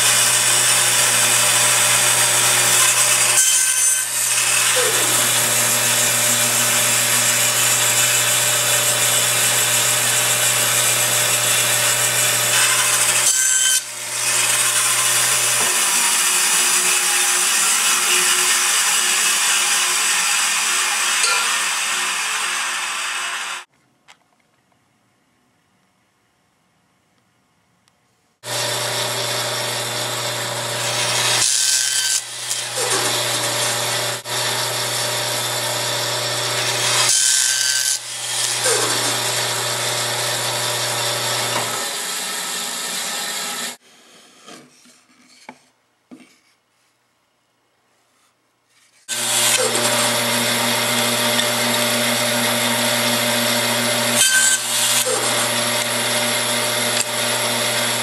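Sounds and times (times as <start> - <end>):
band saw cutting wood: 0.0 - 23.7, 28.4 - 43.8, 49.0 - 58.0.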